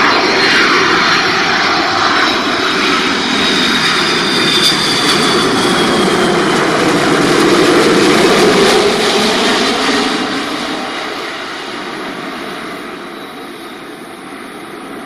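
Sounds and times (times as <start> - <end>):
high jet whine: 0.0 - 15.0
jet engines passing overhead: 0.0 - 15.0.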